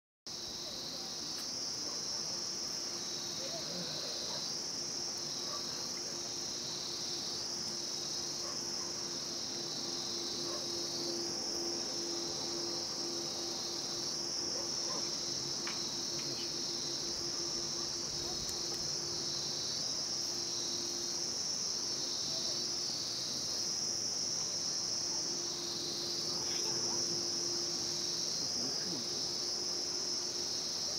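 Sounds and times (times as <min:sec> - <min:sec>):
insects buzzing: 0:00.3 - 0:30.9.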